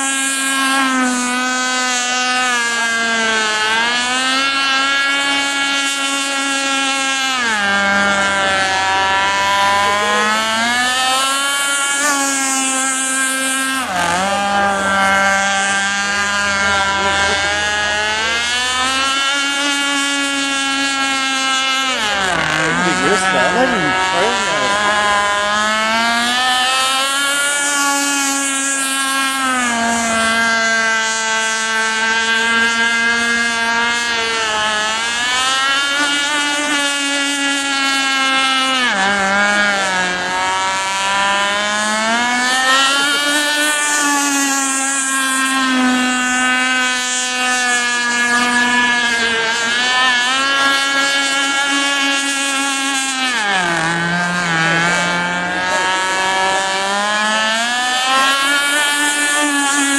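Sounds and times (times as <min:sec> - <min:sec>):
motorboat engine at high revs: 0:00.0 - 0:59.9.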